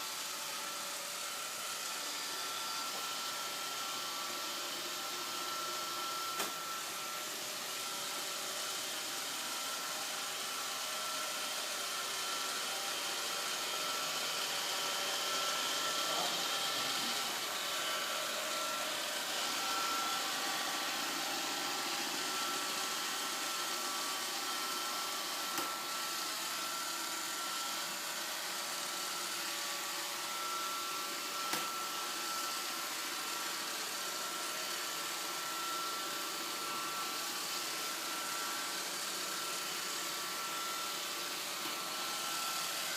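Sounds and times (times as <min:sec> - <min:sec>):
robot vacuum whirring: 0:00.0 - 0:42.9.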